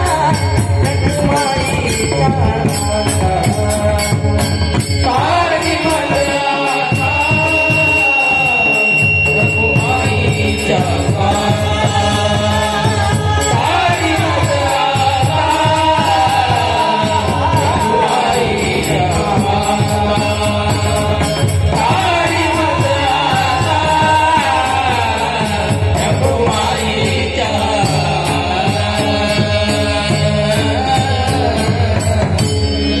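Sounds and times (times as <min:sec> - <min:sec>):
instrumental accompaniment: 0:00.0 - 0:33.0
man singing devotional song: 0:00.0 - 0:33.0
percussion beat: 0:00.0 - 0:33.0.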